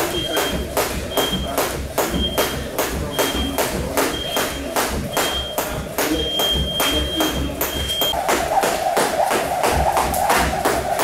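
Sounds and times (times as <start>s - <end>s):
feet landing: 0.0s - 11.0s
skipping rope slapping canvas: 0.0s - 11.0s.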